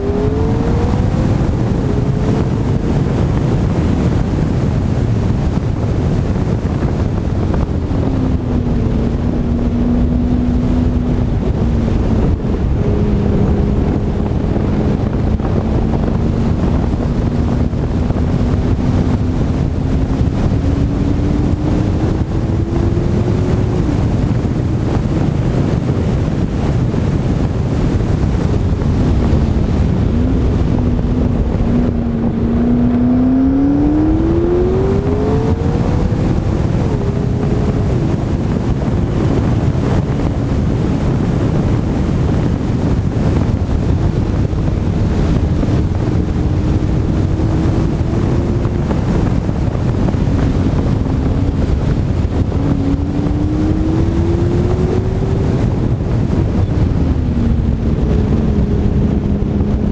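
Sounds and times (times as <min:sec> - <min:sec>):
car engine accelerating: 0:00.0 - 0:59.9
heavy wind rushing: 0:00.0 - 0:59.9.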